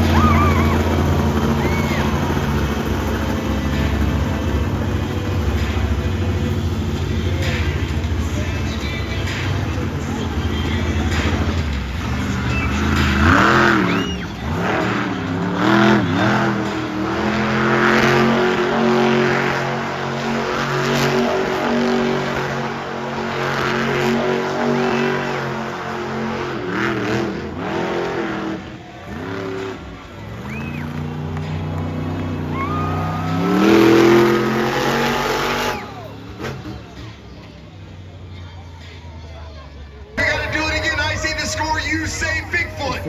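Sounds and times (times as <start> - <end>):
truck engine revving: 0.0 - 39.0, 40.2 - 43.0.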